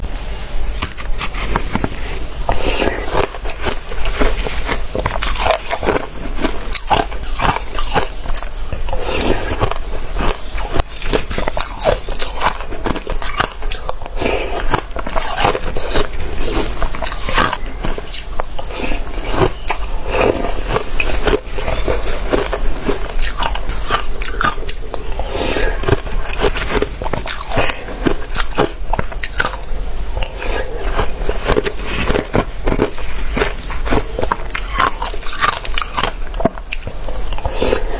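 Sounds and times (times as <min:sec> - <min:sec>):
chewing slushy ice: 0:00.8 - 0:37.9.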